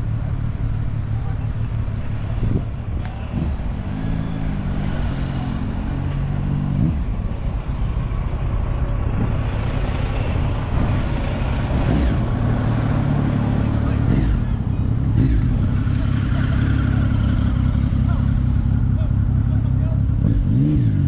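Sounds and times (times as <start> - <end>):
vehicle engine running: 0.0 - 20.6
low rumble of traffic: 0.0 - 21.0.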